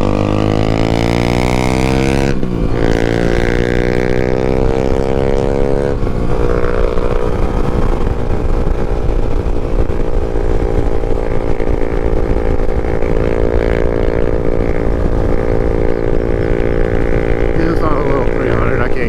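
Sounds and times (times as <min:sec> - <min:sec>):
motorcycle engine running: 0:00.0 - 0:19.0
wind rumble on microphone: 0:00.0 - 0:19.0.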